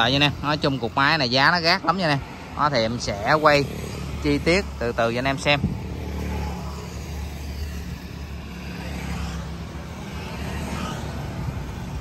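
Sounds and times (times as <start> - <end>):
passing road traffic hum: 0.0 - 12.0.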